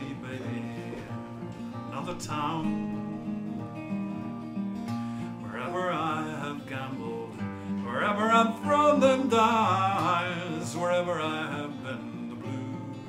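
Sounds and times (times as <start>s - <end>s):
acoustic guitar: 0.0s - 13.0s
man singing blues: 0.0s - 13.0s.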